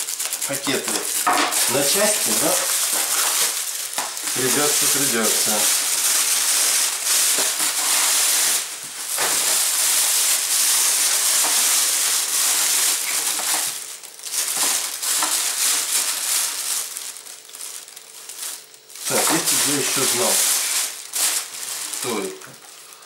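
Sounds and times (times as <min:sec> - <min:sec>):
plastic bag crinkling and tearing: 0:00.0 - 0:23.0.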